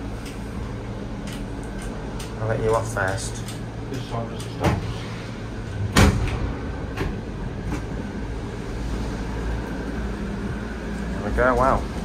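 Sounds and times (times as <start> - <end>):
cable car low rumble: 0.0 - 12.0.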